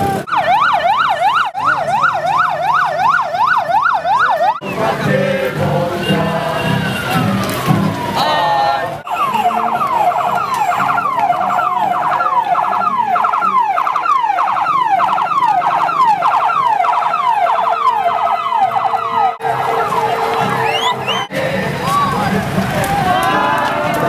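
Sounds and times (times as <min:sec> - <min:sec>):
police siren wailing: 0:00.0 - 0:24.0.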